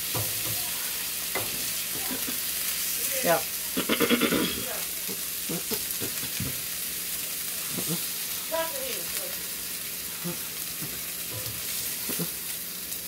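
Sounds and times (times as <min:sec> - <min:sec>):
steaks sizzling in frying pan: 0:00.0 - 0:13.0.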